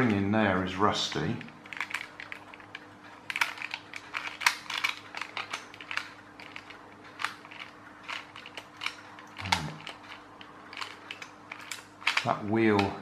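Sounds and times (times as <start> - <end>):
toy gears clicking and rattling: 0.0 - 13.0.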